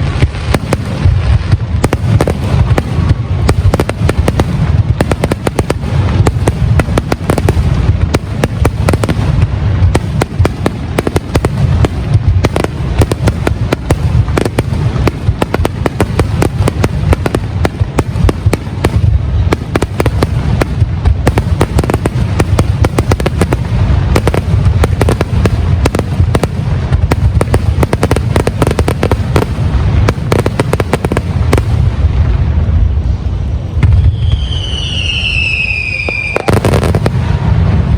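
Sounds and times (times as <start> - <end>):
low booming: 0.0 - 34.6
firework crackling: 0.0 - 37.9.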